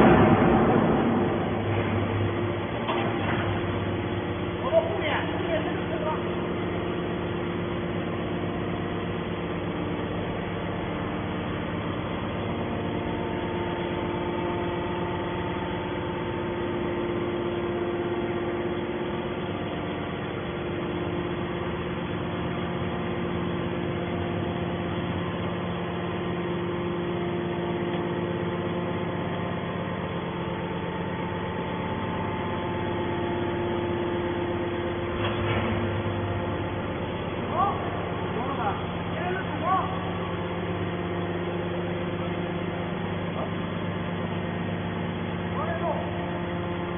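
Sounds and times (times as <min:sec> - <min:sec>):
baler motor and pump humming: 0:00.0 - 0:46.9.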